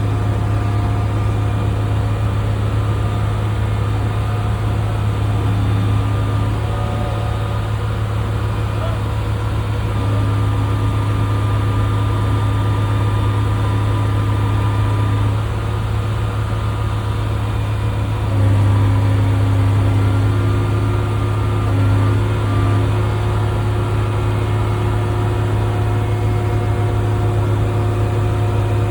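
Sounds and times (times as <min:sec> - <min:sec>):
heavy machinery engine running: 0:00.0 - 0:28.9.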